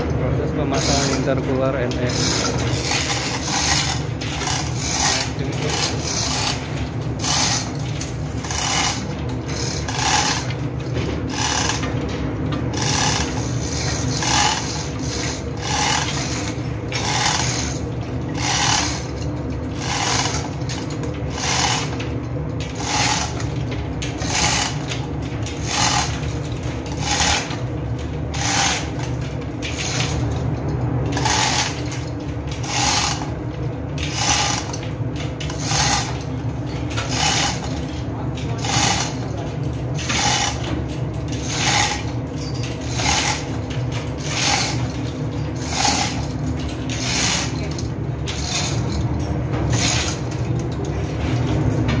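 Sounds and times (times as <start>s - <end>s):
engine-room machinery hum: 0.0s - 52.0s
chain hoist ratcheting rattle: 0.6s - 52.0s.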